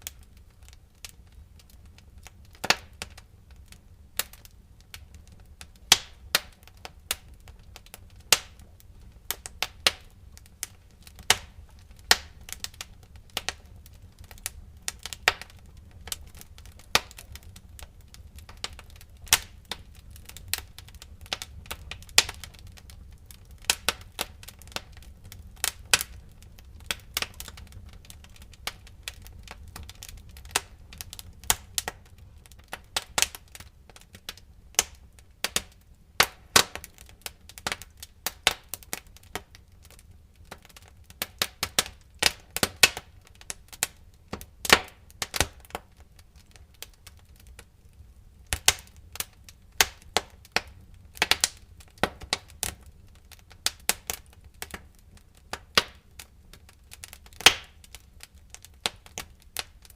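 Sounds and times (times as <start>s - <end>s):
firewood crackling and popping: 0.0s - 59.9s
low rumble of fire: 0.0s - 59.9s.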